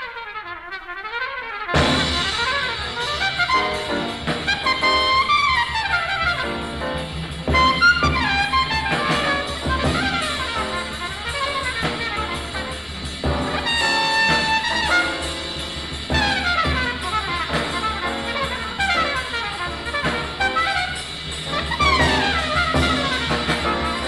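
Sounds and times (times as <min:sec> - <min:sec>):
alto saxophone: 0:00.0 - 0:24.0
piano: 0:00.0 - 0:24.0
trumpet: 0:00.0 - 0:24.0
bass: 0:01.8 - 0:24.0
drums: 0:01.8 - 0:24.0.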